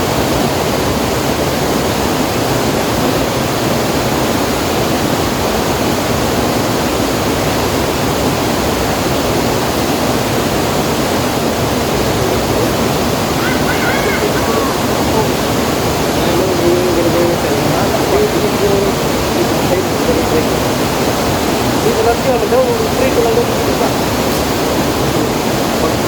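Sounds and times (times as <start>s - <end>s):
flowing river water: 0.0s - 26.0s.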